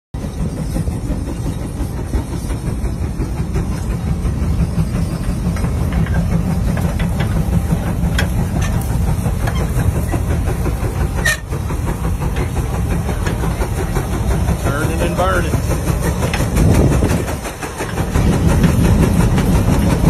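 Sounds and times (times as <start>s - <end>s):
plow frame clanks and rattles: 0.2s - 20.0s
steam tractor heavy rumble: 0.2s - 20.0s.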